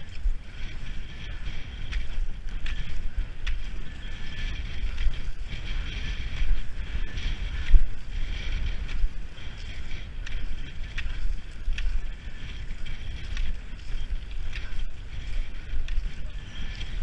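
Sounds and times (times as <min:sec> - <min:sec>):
ski poles clicking: 0:00.0 - 0:17.0
skis gliding on snow: 0:00.0 - 0:17.0
wind buffeting microphone: 0:00.0 - 0:17.0.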